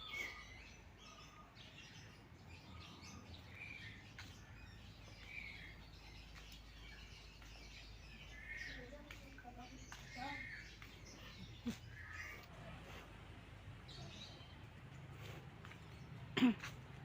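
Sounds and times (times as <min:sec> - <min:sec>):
faint bird chirping: 0:00.0 - 0:16.6.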